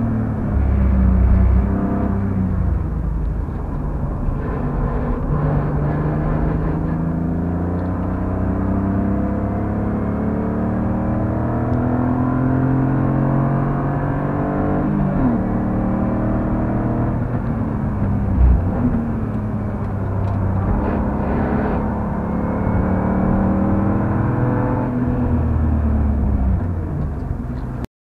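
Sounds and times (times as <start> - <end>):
car engine under load: 0.0 - 27.9.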